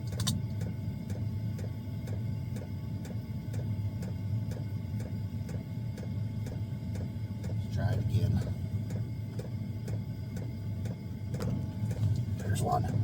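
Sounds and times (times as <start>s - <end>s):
air heater humming: 0.0s - 13.0s
fuel pump ticking: 0.0s - 13.0s.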